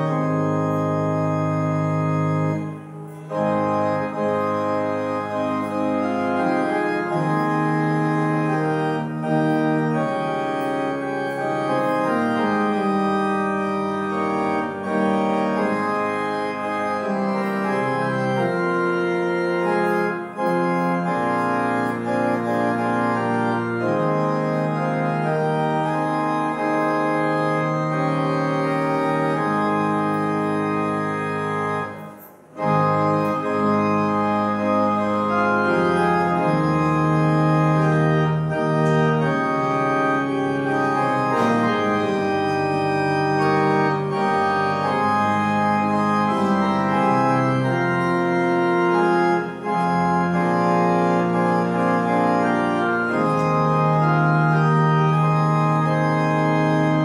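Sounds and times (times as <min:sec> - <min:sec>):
organ playing held chords: 0:00.0 - 0:57.0.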